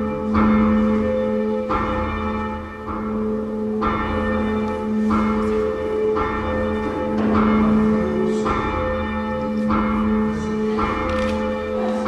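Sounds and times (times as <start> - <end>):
church bell tolling: 0.0 - 12.0.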